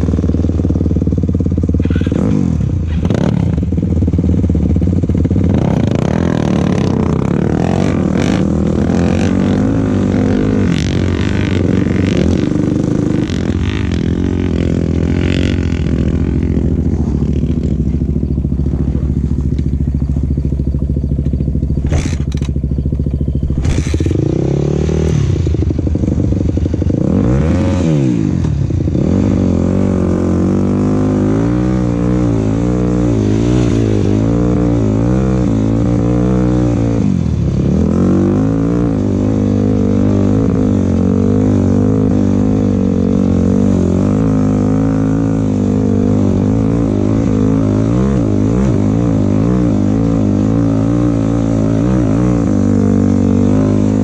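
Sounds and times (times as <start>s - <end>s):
quad engine revving: 0.0s - 22.7s, 23.4s - 54.0s.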